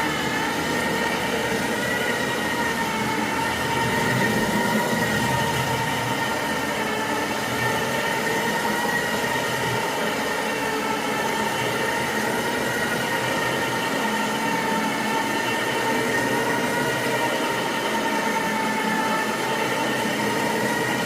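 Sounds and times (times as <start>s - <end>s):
carpet cleaning machine whining: 0.0s - 21.0s.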